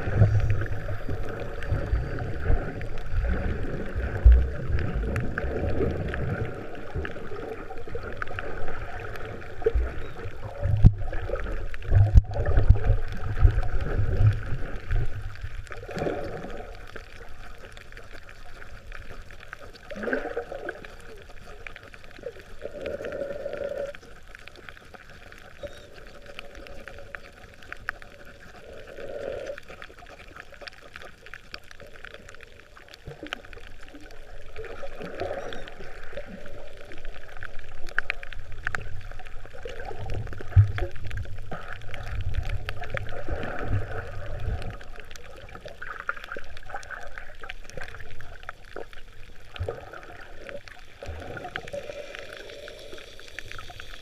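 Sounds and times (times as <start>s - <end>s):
faint clicks: 0.0s - 54.0s
muffled underwater sloshing: 0.0s - 54.0s.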